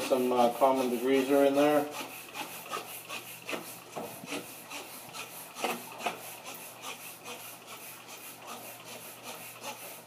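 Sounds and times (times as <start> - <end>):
scraper rasping on grill: 0.0 - 10.0.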